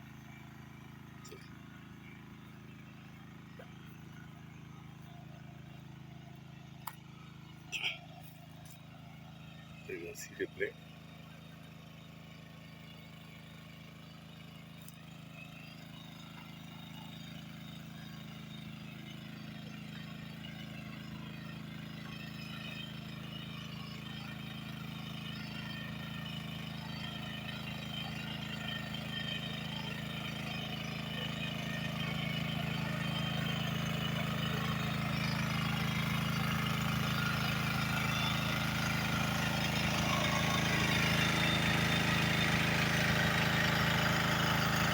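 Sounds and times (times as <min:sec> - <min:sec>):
engine humming: 0:00.0 - 0:44.9.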